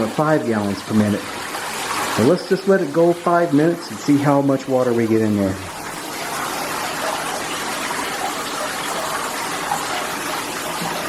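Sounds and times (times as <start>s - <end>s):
water splashing into bathtub: 0.0s - 11.0s.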